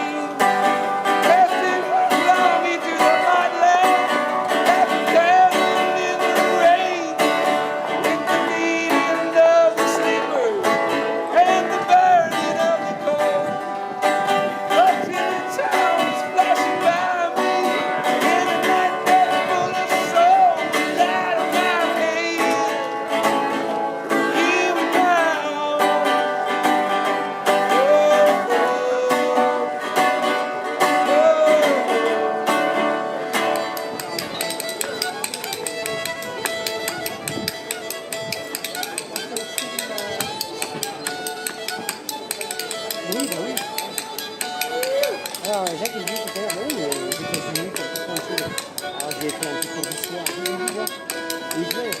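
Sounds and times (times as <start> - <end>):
folk music on plucked strings: 0.0 - 52.0.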